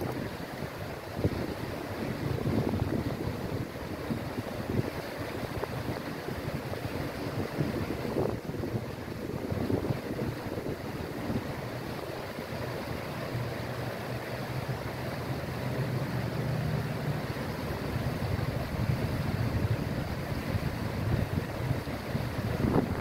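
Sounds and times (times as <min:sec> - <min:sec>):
wind buffeting microphone: 0:00.0 - 0:12.1, 0:16.5 - 0:23.0
river rushing over rocks: 0:00.0 - 0:23.0.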